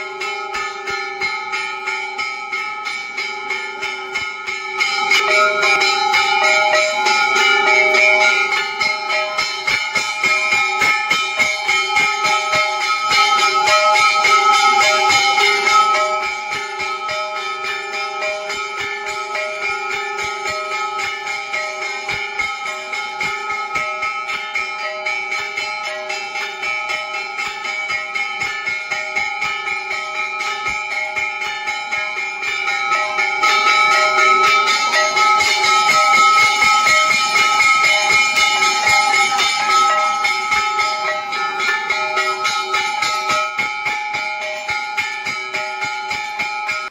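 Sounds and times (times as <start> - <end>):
temple bells ringing: 0.0 - 46.9.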